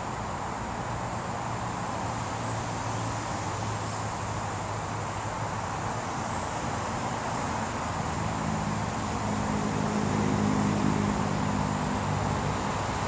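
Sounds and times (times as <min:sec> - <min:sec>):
road traffic rumble: 0:00.0 - 0:13.0
vehicle engine hum: 0:00.0 - 0:13.0.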